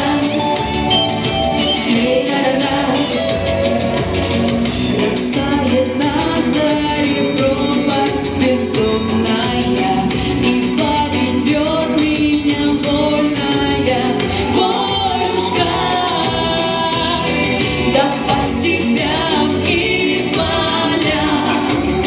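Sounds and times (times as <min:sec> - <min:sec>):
instrumental accompaniment with beat: 0:00.0 - 0:22.0
woman singing: 0:00.0 - 0:22.0.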